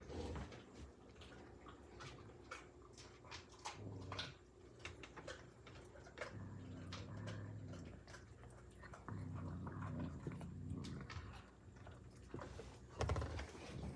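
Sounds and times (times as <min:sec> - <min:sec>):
dog growling: 0:00.0 - 0:00.7, 0:03.4 - 0:13.9
dog crunching bones: 0:00.1 - 0:13.9.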